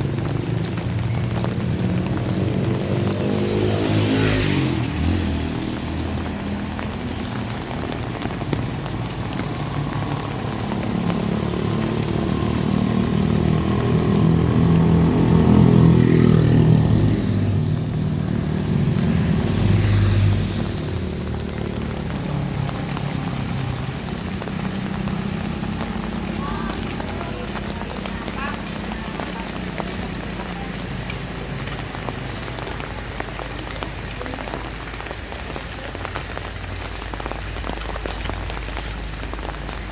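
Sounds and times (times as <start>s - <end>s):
vehicle engines passing by: 0.0s - 39.9s.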